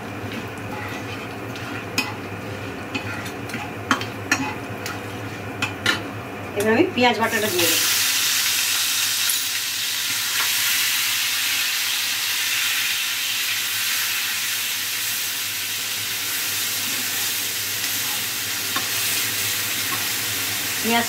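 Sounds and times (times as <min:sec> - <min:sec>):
onion paste sizzling in oil: 0:00.0 - 0:05.9, 0:07.0 - 0:21.0.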